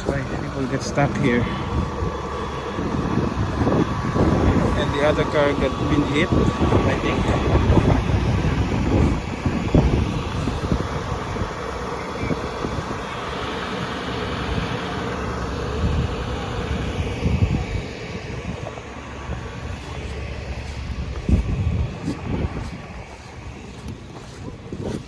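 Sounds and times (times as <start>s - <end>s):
wind noise: 0.0s - 13.2s, 15.7s - 25.0s
traffic rumble: 0.0s - 25.0s.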